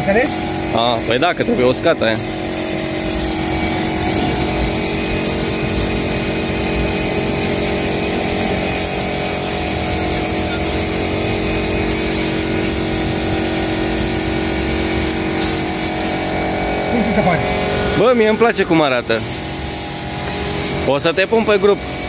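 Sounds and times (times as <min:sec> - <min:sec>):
spray gun hissing: 0:00.0 - 0:16.4, 0:19.2 - 0:22.0
air compressor humming: 0:00.0 - 0:22.0.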